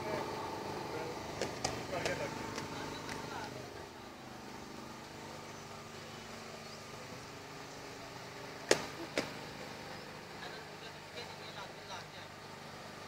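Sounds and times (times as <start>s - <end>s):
faint steady background hum: 0.0s - 13.0s.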